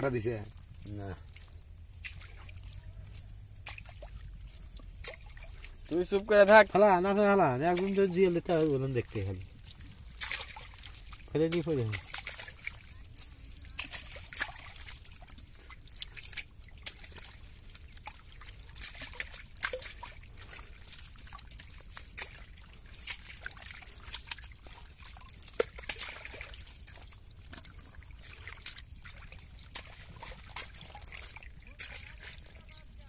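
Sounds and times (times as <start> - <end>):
hands sloshing through mud and water: 0.0 - 33.0
small splashes and squelches: 0.0 - 33.0
water trickling: 0.0 - 33.0.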